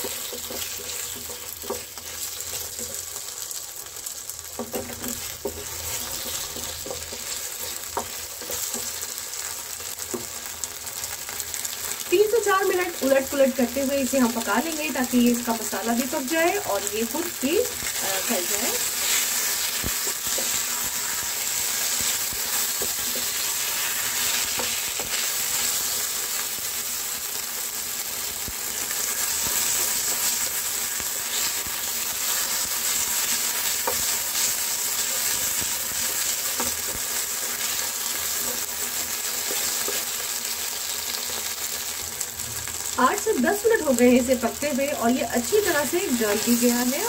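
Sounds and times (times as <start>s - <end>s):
chicken sizzling in oil: 0.0s - 47.0s.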